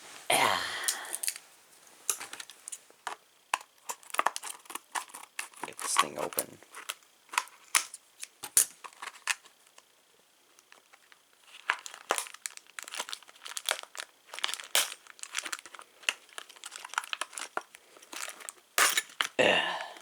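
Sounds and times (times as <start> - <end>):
plastic packaging crinkling: 2.0 - 9.8, 10.6 - 19.4.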